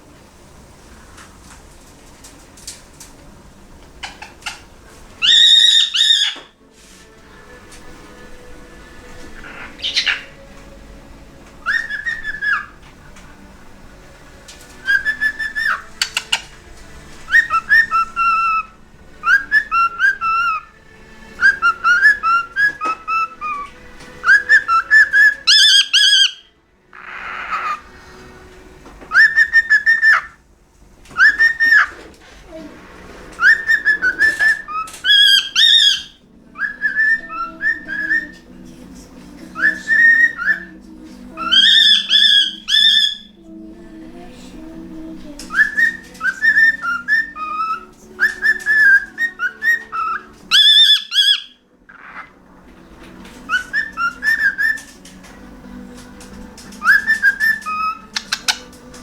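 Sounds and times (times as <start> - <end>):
cockatiel whistling a tune: 3.9 - 30.4, 31.1 - 32.1, 33.0 - 43.5, 45.3 - 55.3, 56.0 - 59.0.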